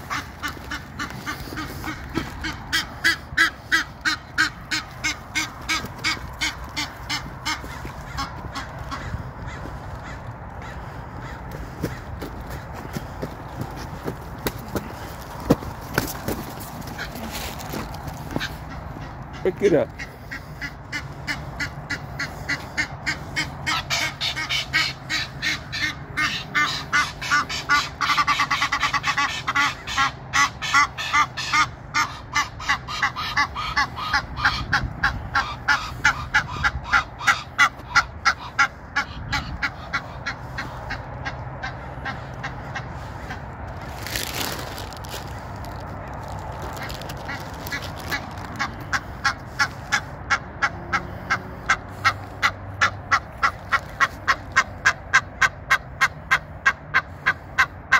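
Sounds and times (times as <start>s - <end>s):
geese honking: 0.0s - 57.9s.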